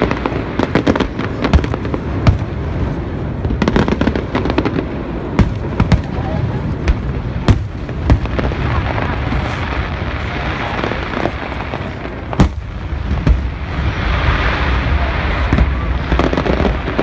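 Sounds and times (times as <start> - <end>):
fireworks bangs: 0.0 - 17.0
fireworks rumble and crackle: 0.0 - 17.0.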